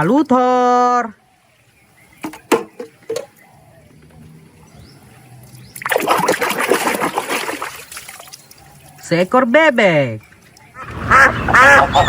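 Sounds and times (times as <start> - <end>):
water splashing and trickling: 1.6 - 11.6.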